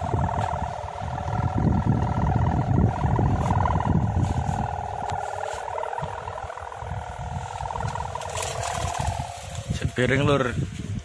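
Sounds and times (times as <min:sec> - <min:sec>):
kite bow hummer droning: 0:00.0 - 0:11.0
wind rumble on microphone: 0:00.0 - 0:11.0.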